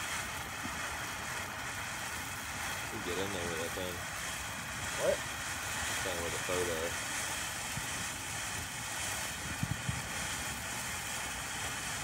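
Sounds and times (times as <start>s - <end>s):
firework fountain hissing: 0.0s - 12.0s
low pops: 0.0s - 12.0s.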